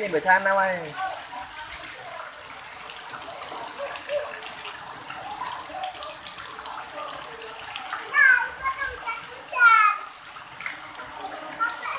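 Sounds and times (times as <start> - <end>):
rain on wet pavement: 0.0 - 11.9.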